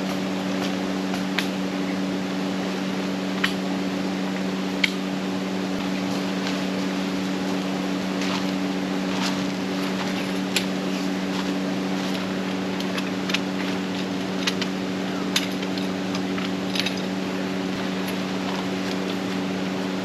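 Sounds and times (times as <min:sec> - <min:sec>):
small motor humming: 0:00.0 - 0:20.0.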